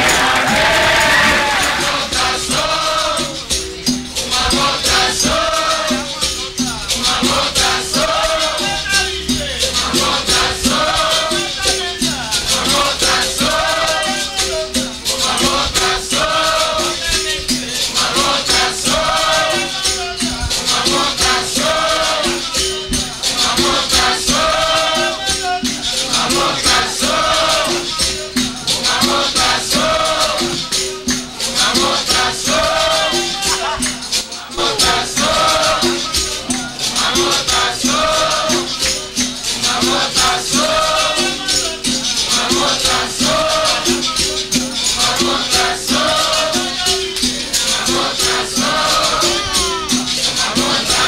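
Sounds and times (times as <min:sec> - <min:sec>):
shakers: 0:00.0 - 0:51.0
tambourine rhythm: 0:00.0 - 0:51.0
voices singing along: 0:00.0 - 0:51.0.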